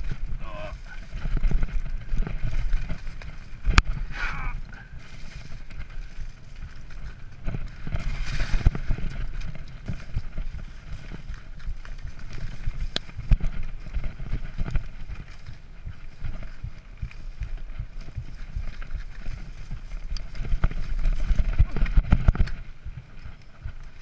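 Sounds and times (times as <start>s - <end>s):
bike knocking and rattling: 0.0s - 24.0s
tyres rumbling on gravel: 0.0s - 24.0s.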